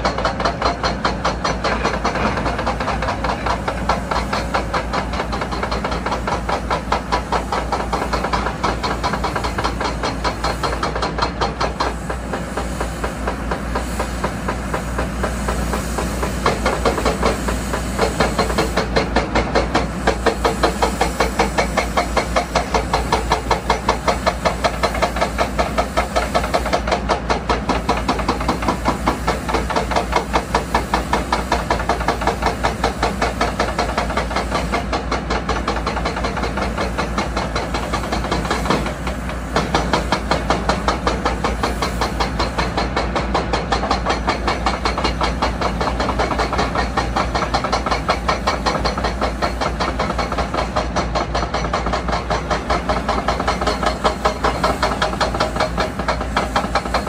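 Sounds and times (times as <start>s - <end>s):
diesel engines knocking: 0.0s - 57.0s
hiss: 0.0s - 57.0s.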